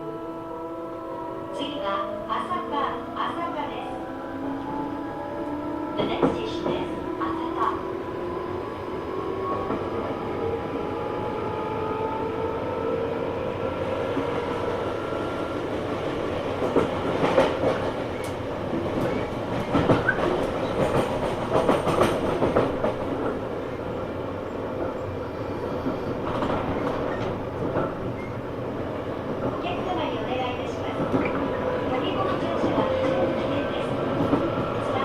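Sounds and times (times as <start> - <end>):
train running noise: 1.5 - 8.1, 12.2 - 35.0.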